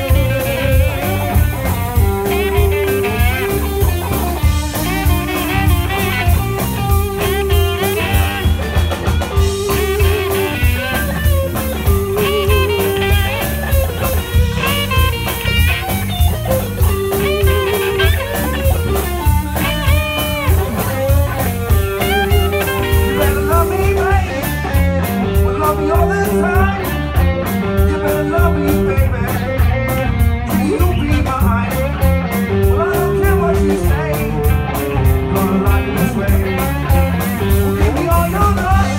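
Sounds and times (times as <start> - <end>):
bass guitar: 0.0 - 38.9
drum kit: 0.0 - 38.9
electric guitar lines: 0.0 - 38.9.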